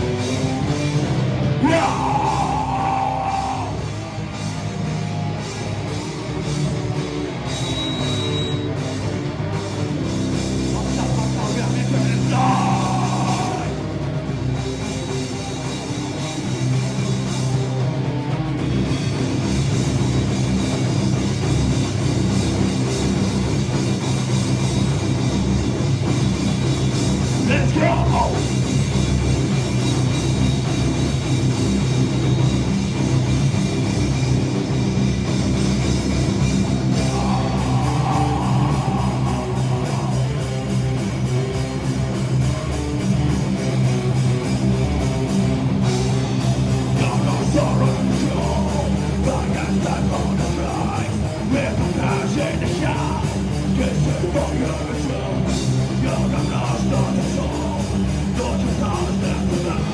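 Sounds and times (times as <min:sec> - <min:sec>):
fast steady drumming: 0:00.0 - 0:59.9
rock band playing heavy music: 0:00.0 - 0:59.9.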